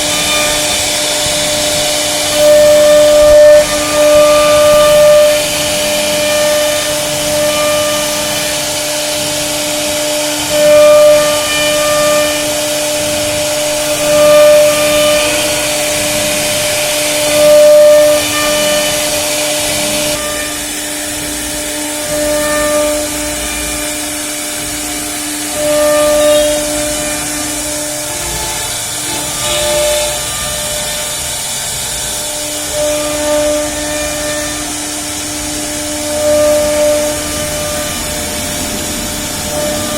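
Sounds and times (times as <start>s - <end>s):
cutting hiss: 0.0s - 39.9s
router spindle whine: 0.0s - 39.9s.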